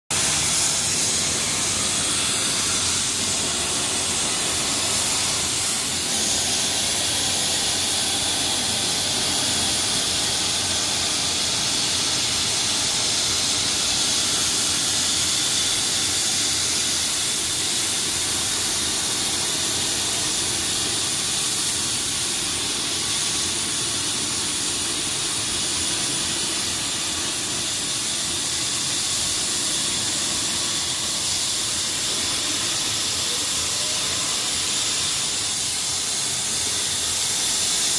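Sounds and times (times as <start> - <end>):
plasma cutter hissing: 0.1 - 37.9.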